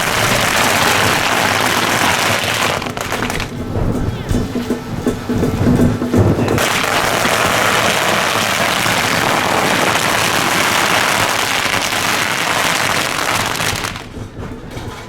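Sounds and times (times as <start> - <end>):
firecrackers crackling: 0.0 - 14.9.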